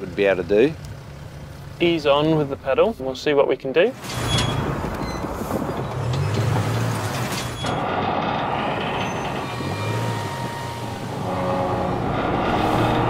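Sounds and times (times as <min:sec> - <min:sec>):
engine hum under load: 0:00.0 - 0:03.1, 0:04.0 - 0:13.0
trucks and trailers rumbling: 0:00.0 - 0:13.0.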